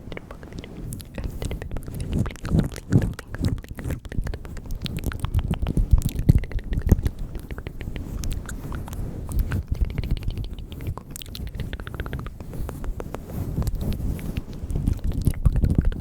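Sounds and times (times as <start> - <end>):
wet mouth clicks and smacks: 0.1 - 16.0
soft low puffs: 0.3 - 16.0.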